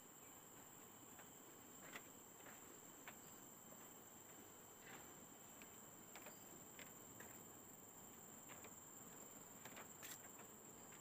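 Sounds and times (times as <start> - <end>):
insects droning: 0.0 - 11.0
faint ticks: 0.5 - 11.0.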